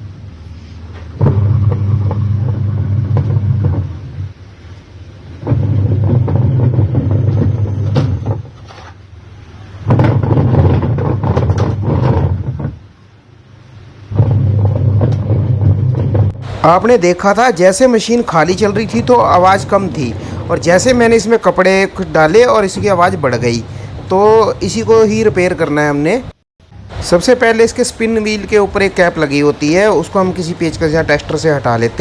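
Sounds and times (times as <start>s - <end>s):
washing machine agitator rumbling: 0.0s - 32.0s.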